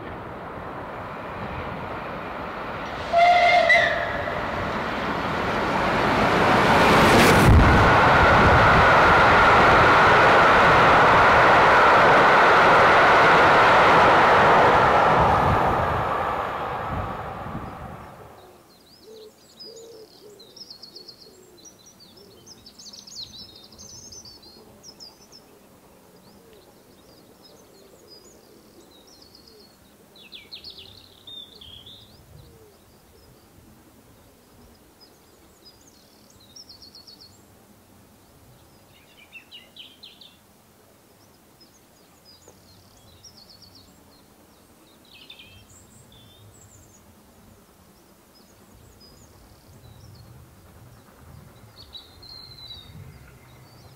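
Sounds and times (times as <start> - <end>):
faint outdoor background: 0.0 - 53.9.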